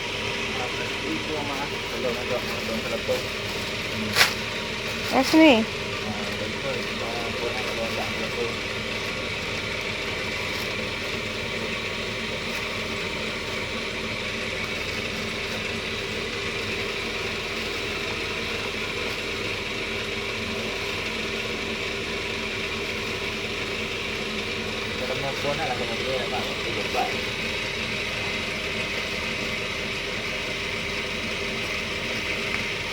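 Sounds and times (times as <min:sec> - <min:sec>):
cotton candy machine motor: 0:00.0 - 0:32.9.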